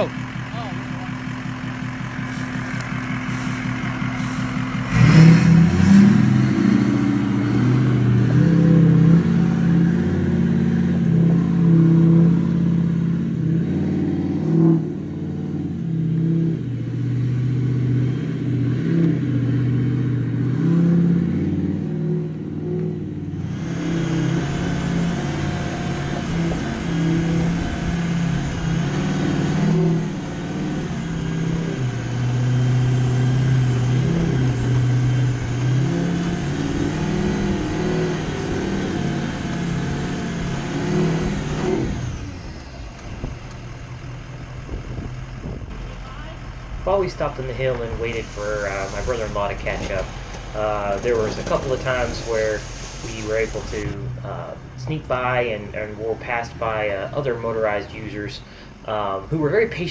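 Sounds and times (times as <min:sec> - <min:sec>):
diesel truck engine: 0:00.0 - 0:59.9.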